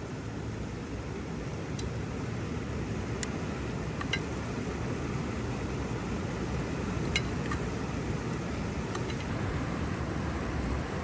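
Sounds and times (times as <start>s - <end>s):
river water rushing over weir: 0.0s - 11.0s.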